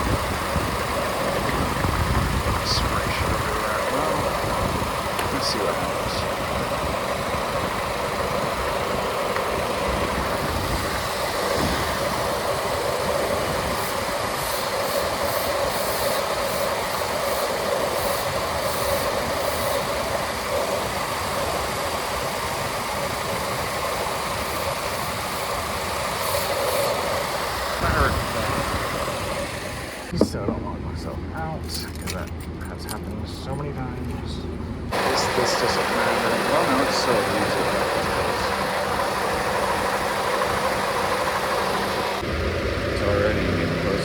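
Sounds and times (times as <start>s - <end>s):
car engine idling: 0.0s - 31.6s, 32.7s - 44.0s.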